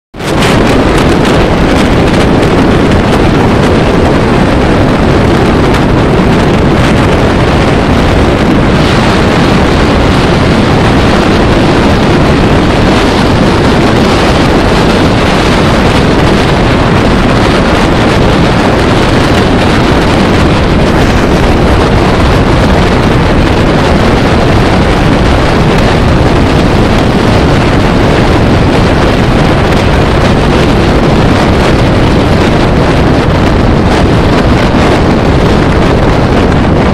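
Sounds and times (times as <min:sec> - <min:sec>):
road noise: 0:00.1 - 0:36.9
wind rushing on microphone: 0:00.1 - 0:36.9.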